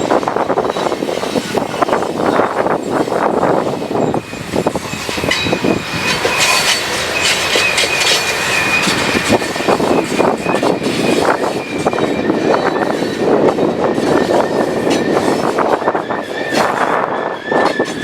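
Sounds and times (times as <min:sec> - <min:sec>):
wind buffeting microphone: 0:00.0 - 0:08.1, 0:08.7 - 0:18.0
train wheels squealing: 0:00.0 - 0:18.0.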